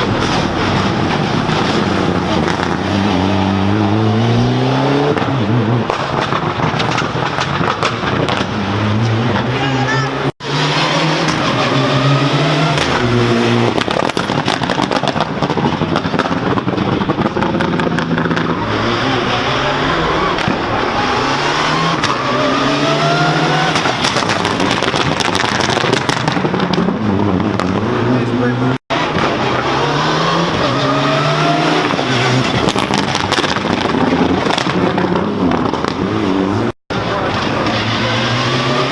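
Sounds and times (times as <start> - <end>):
exhaust pops and crackles: 0.0 - 38.9
rally car engine accelerating: 0.0 - 38.9.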